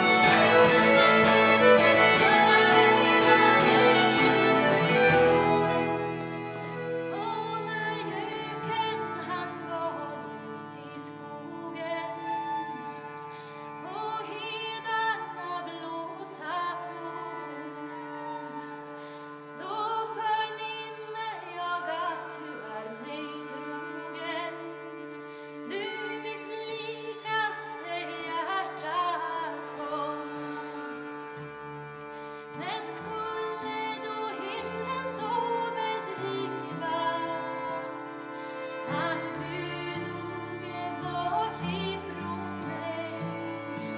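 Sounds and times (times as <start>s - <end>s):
guitar: 0.0s - 43.9s
harmonium drone: 0.0s - 43.9s
violins: 0.0s - 43.9s
woman singing folk tune: 0.0s - 43.9s.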